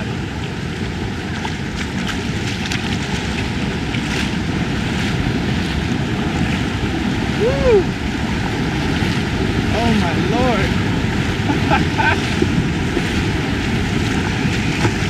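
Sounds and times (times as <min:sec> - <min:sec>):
creek water rushing: 0:00.0 - 0:15.0
splashes from wading steps: 0:00.4 - 0:07.5, 0:08.2 - 0:15.0.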